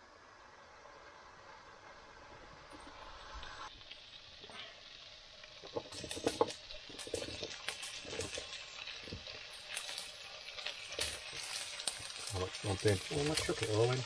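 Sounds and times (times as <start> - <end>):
burgers sizzling in a pan: 0.0 - 14.0.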